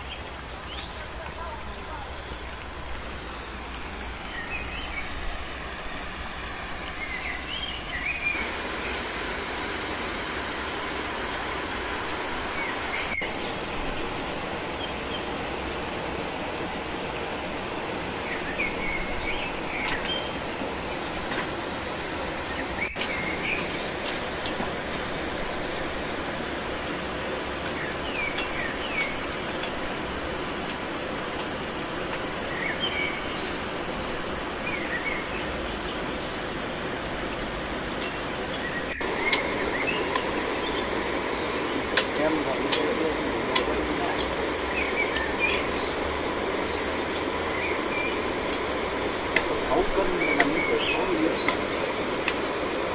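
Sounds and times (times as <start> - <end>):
high steady whine: 0.0 - 52.9
steady rushing noise: 0.0 - 52.9.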